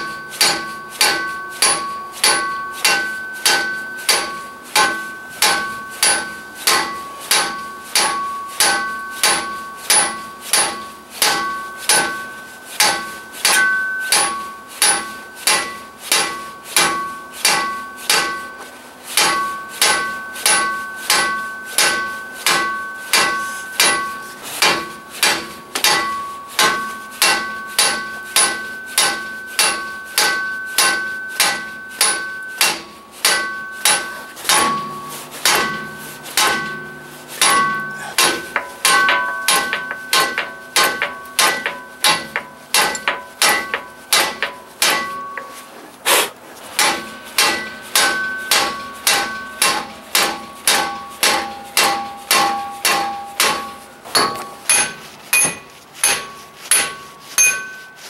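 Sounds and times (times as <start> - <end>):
hammer blows on metal hub: 0.0 - 58.0.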